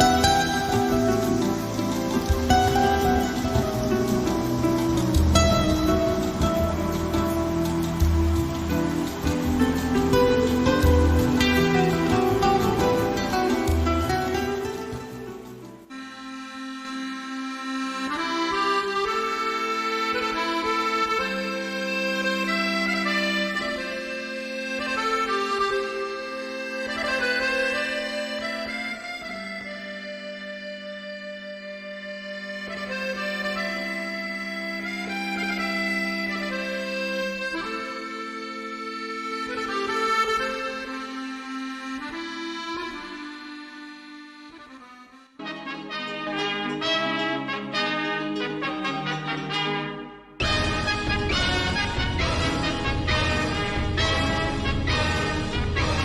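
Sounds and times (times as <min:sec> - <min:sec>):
accordion-like music: 0:00.0 - 0:56.0.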